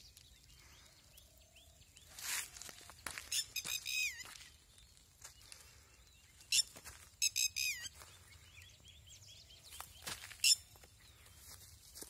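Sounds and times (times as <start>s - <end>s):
faint bird chirps: 0.0s - 11.9s
birds calling: 0.0s - 12.0s.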